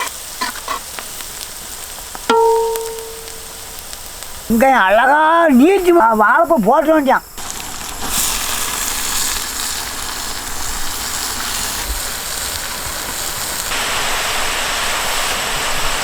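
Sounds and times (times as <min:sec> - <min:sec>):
food frying in oil sizzle: 0:00.0 - 0:05.6, 0:06.8 - 0:16.0.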